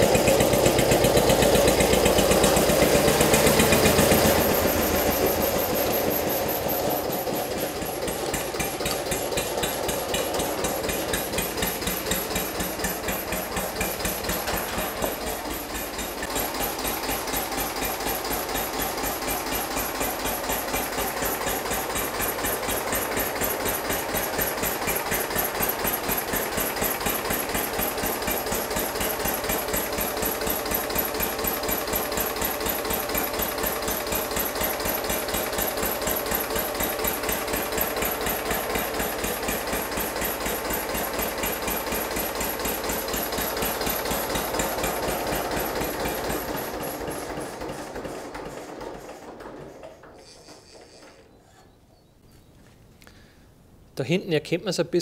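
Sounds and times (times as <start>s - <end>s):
diesel tractor engine knocking: 0.0s - 51.3s.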